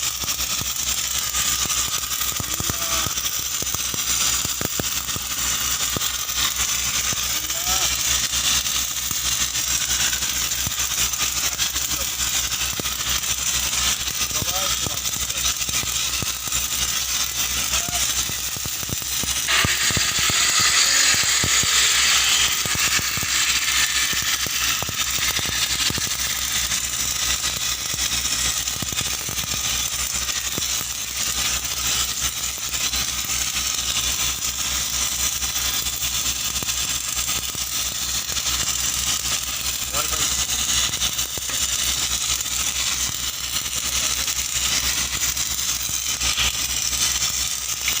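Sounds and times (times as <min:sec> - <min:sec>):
engine drone: 0:00.0 - 0:48.0
welding arc crackling: 0:00.0 - 0:48.0.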